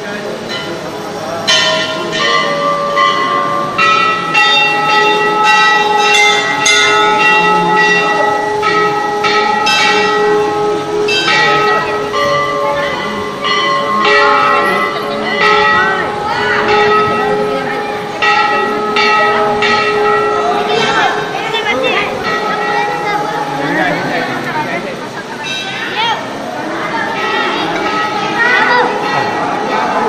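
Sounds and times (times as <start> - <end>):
temple bells ringing: 0.0 - 30.0.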